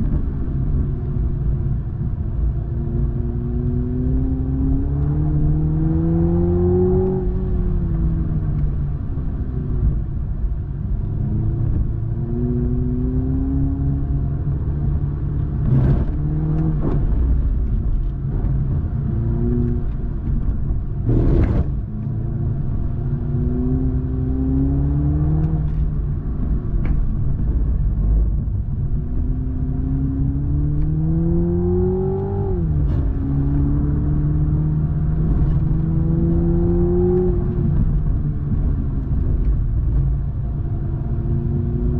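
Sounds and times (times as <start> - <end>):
car engine accelerating through gears: 0.0 - 41.9
road and tyre rumble: 0.0 - 41.9.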